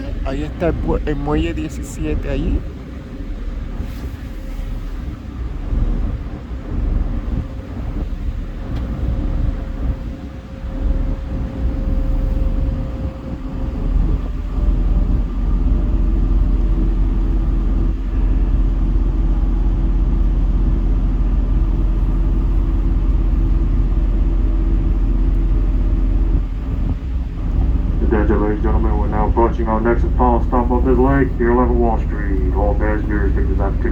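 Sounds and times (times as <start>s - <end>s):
ferry engines rumbling: 0.0s - 33.9s
steady engine tone: 0.0s - 33.9s.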